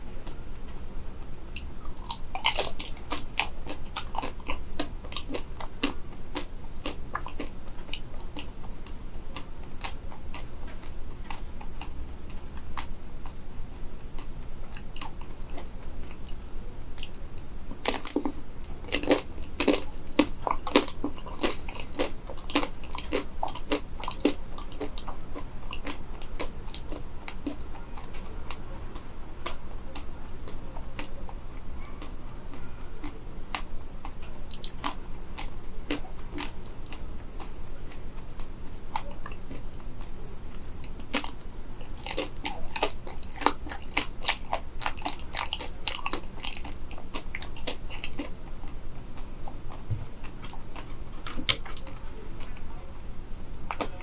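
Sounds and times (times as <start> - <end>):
crunching and chewing food: 0.2 - 54.0.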